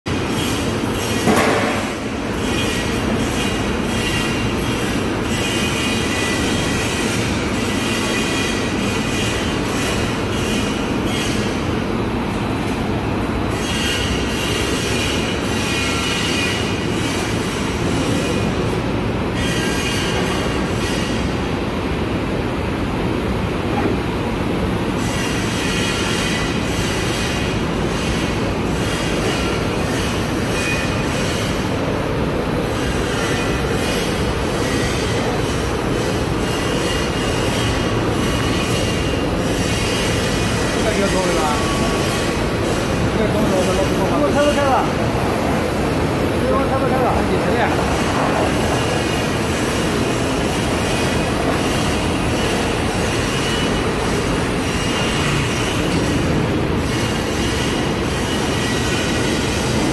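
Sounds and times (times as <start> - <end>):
high machine whine: 0.1 - 59.9
industrial mixer machine noise: 0.1 - 59.9.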